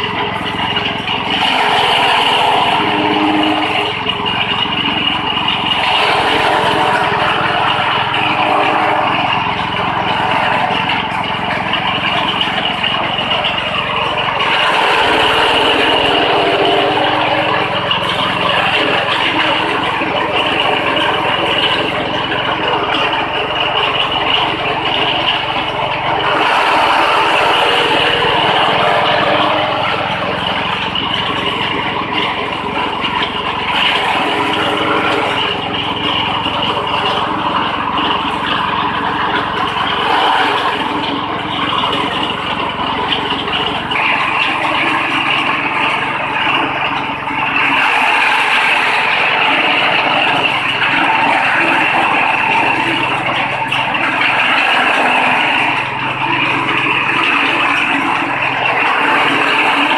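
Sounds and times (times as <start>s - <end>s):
cutter chopping grass: 0.0s - 59.9s
petrol engine running: 0.0s - 59.9s.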